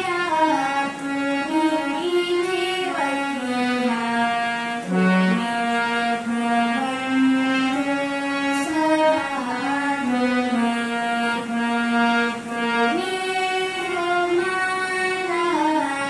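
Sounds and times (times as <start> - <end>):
harmonium playing a melody: 0.0 - 16.0.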